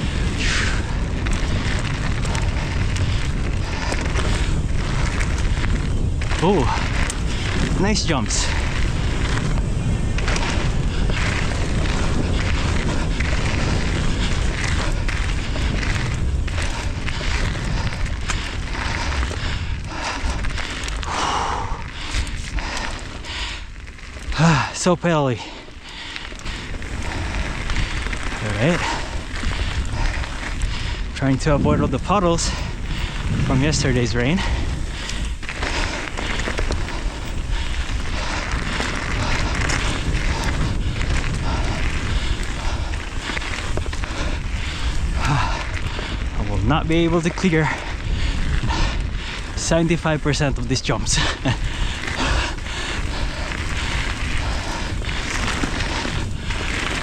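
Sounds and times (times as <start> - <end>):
bike rattles and knocks: 0.0 - 57.0
tyres on dirt trail: 0.0 - 57.0
wind buffeting microphone: 0.0 - 57.0.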